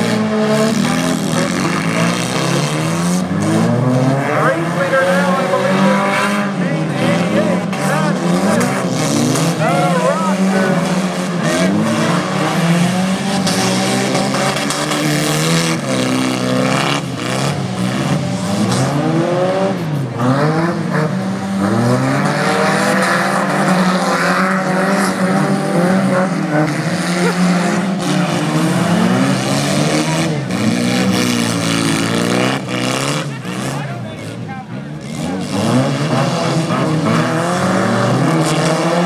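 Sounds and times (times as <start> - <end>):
race car engines revving: 0.0 - 39.0.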